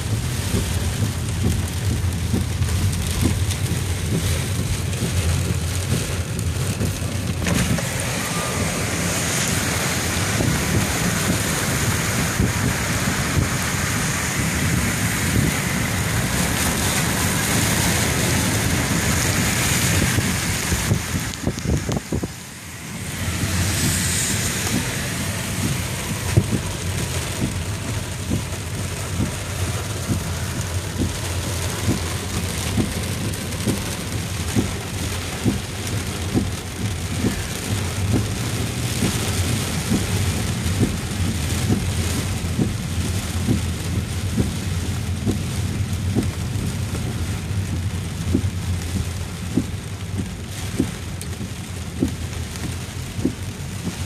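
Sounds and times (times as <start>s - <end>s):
car engine and road noise: 0.0s - 54.0s
rain beating on car: 0.0s - 54.0s
tyre hiss on wet pavement: 0.0s - 54.0s.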